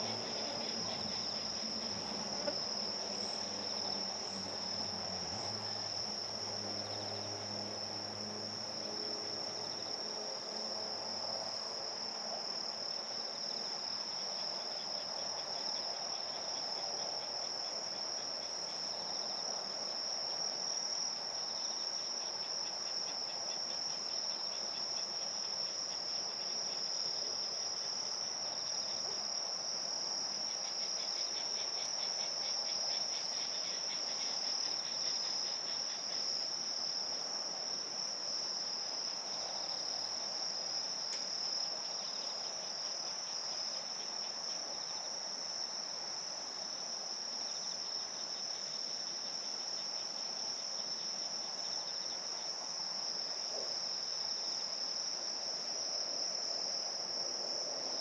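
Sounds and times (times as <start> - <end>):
rapid pulsing cricket chirps: 0.0 - 58.0
steady high cricket trill: 0.0 - 58.0.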